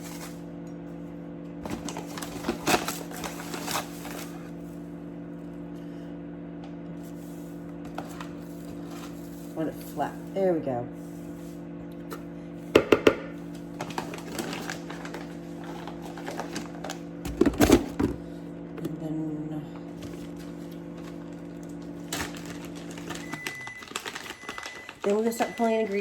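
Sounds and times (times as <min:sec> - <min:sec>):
kitchen appliance hum: 0:00.0 - 0:26.0.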